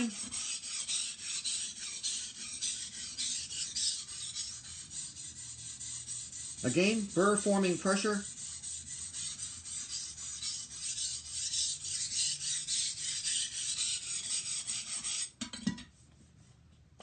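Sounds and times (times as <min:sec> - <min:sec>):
knife scraping on whetstone: 0:00.0 - 0:15.4.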